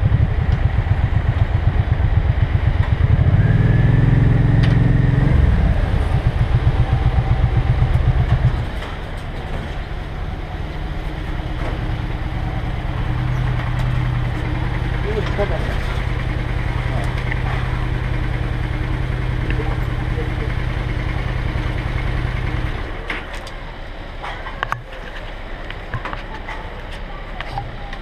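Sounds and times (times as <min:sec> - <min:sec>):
another motorcycle idling: 0:00.0 - 0:28.0
motorcycle engine idling and revving: 0:00.0 - 0:28.0.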